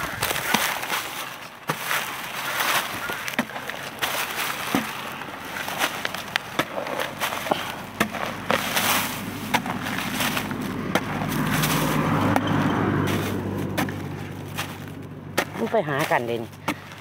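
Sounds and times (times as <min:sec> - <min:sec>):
spade chopping and scraping soil: 0:00.0 - 0:17.0
spade crunching through straw: 0:00.0 - 0:17.0.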